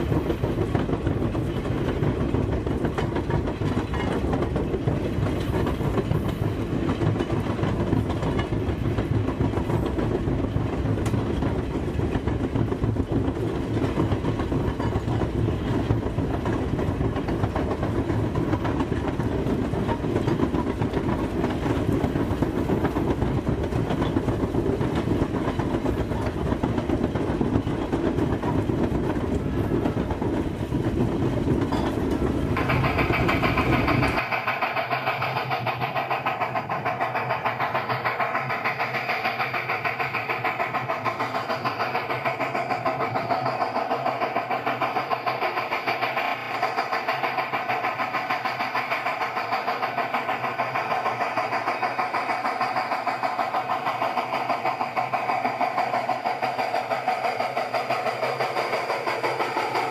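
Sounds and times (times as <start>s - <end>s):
rail car clickety-clack: 0.0s - 59.9s.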